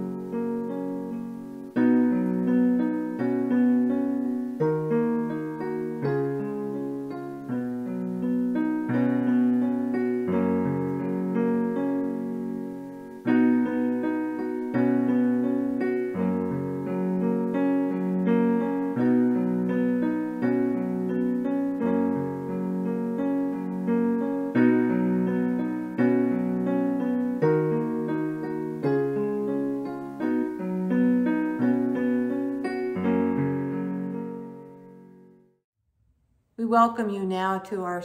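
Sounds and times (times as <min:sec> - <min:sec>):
slow piano chords: 0:00.0 - 0:35.6.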